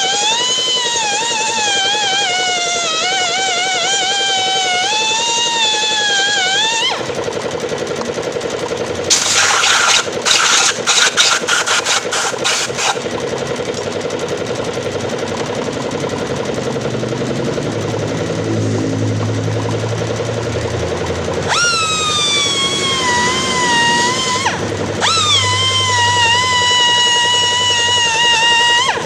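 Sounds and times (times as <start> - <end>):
air grinder running: 0.0 - 29.0
air grinder whine: 0.0 - 29.0.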